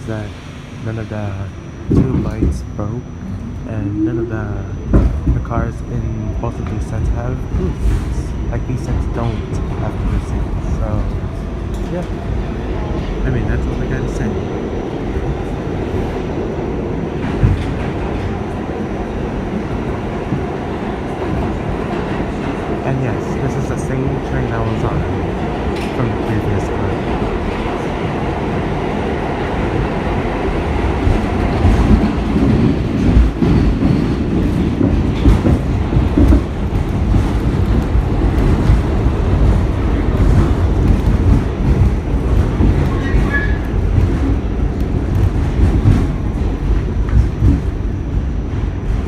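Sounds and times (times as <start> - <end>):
subway wheels rumbling on rails: 0.0 - 49.0.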